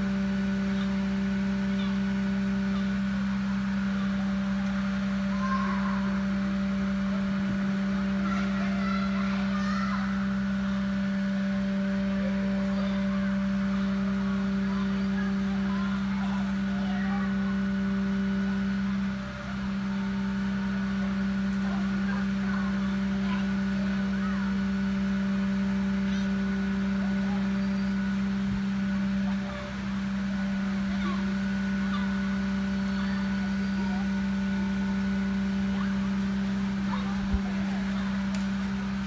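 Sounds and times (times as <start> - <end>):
truck engine and hydraulic pump hum: 0.0 - 39.0.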